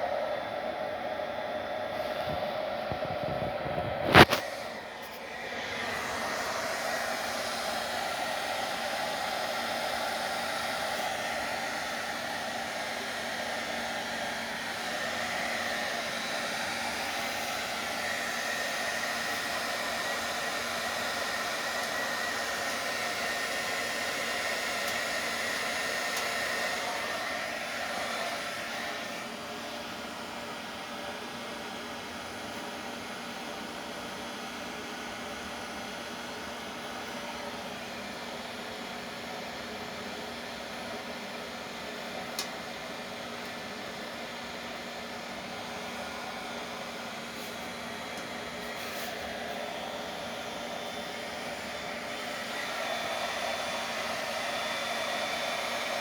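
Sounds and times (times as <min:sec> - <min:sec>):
blower motor rushing air: 0:00.0 - 0:56.0.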